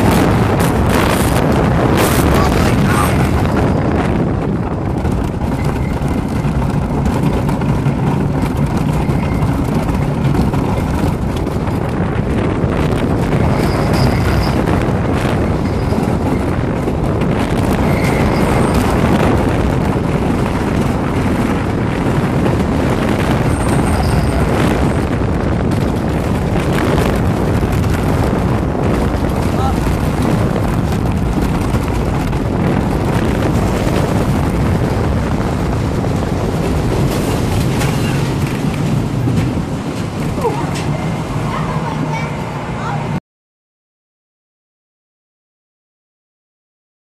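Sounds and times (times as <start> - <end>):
roller coaster rumbling on wooden track: 0.0 - 43.2.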